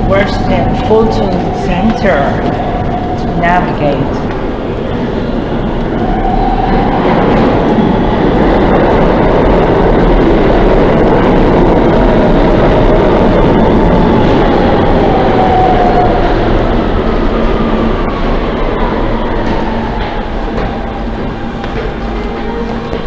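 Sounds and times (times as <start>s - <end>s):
subway train rumble: 0.0s - 23.0s.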